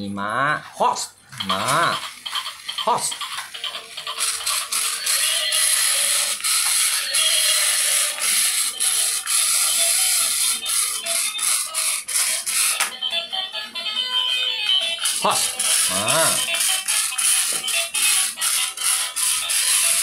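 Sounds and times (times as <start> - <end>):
toy motor and gears whirring: 1.4 - 20.0.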